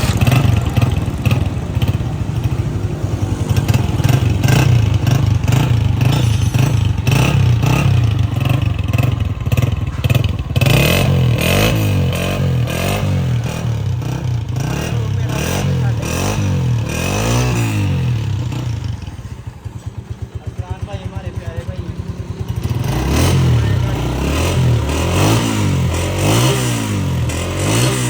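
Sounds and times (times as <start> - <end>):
engine mechanical clatter: 0.0 - 28.0
motorcycle engine revving: 0.0 - 28.0.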